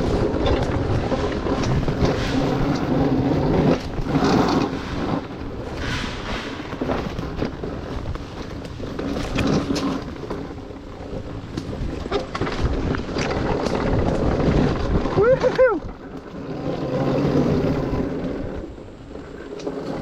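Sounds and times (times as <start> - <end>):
knocks and rattles: 0.0 - 18.5
dirt bike engine running: 0.0 - 20.0
wind buffeting microphone: 0.0 - 20.0.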